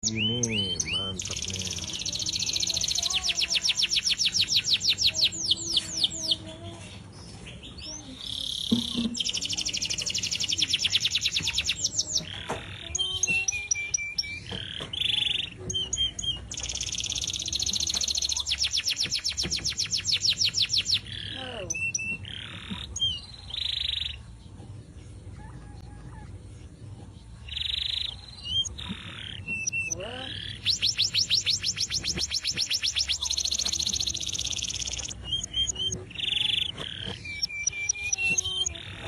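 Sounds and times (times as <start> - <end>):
canary singing trills: 0.0 - 39.0.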